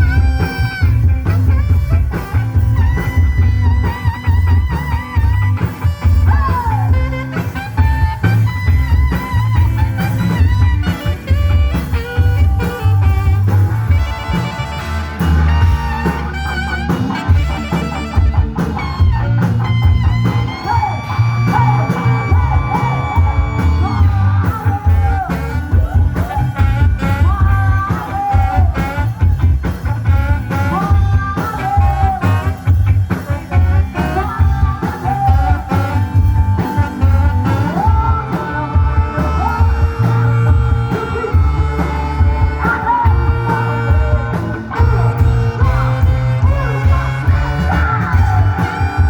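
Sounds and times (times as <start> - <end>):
rock music: 0.0 - 49.0.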